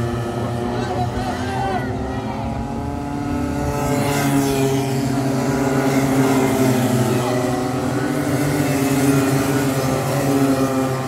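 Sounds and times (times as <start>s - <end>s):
kart engines racing: 0.0s - 11.0s.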